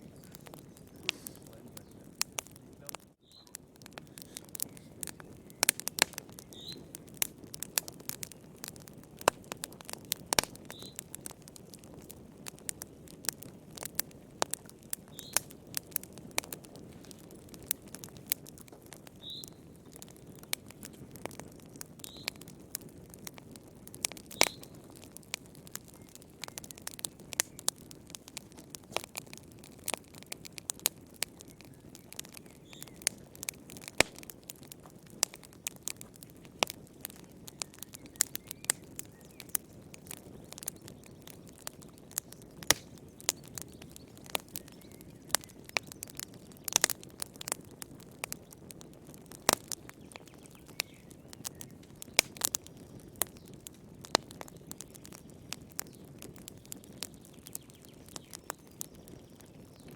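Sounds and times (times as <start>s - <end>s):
low rush of flames: 0.0s - 59.8s
wood fire crackling and popping: 0.0s - 59.9s.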